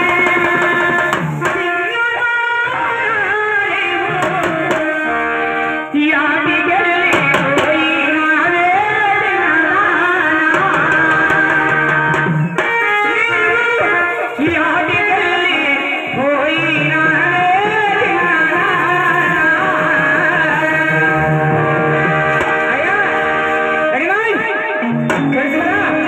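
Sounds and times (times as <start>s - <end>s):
drums: 0.0s - 26.0s
man singing into a microphone: 0.0s - 26.0s
melodic instrument accompaniment: 0.0s - 26.0s.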